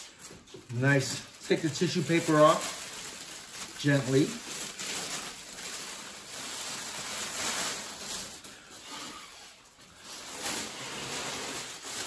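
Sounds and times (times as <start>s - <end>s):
tissue paper rustling: 0.0s - 12.0s.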